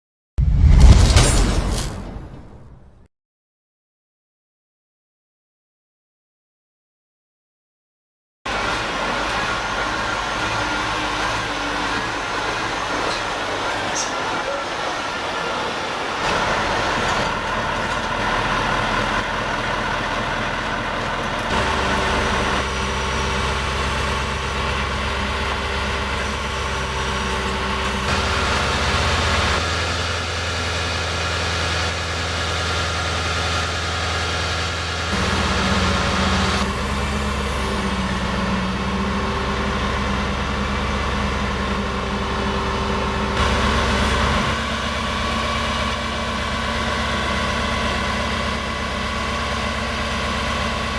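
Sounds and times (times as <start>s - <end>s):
diesel truck engine idling: 8.5s - 50.9s.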